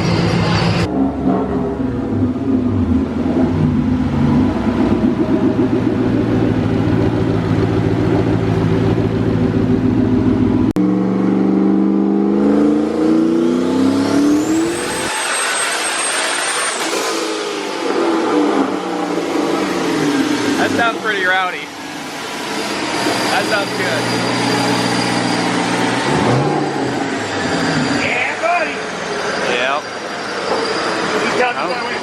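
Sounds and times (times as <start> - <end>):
car engine revving on a dyno: 0.0 - 32.0
high whine: 0.0 - 32.0.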